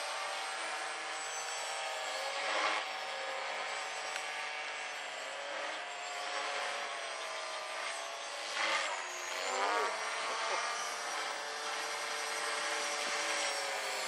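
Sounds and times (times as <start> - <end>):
helicopter motor whine: 0.0 - 14.0.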